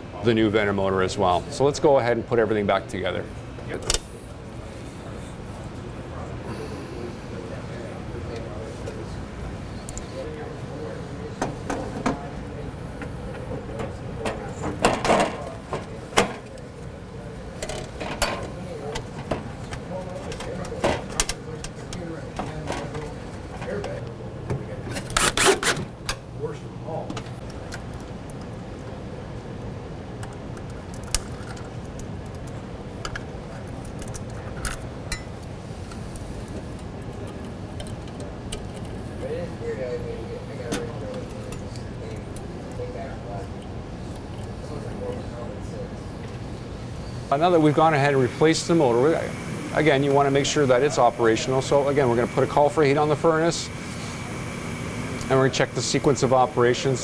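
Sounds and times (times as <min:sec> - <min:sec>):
low background noise: 0:00.0 - 0:57.0.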